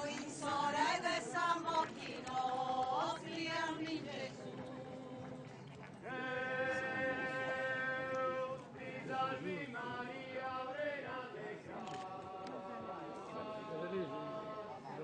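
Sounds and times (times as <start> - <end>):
group singing a chant-like hymn: 0.0 - 15.0.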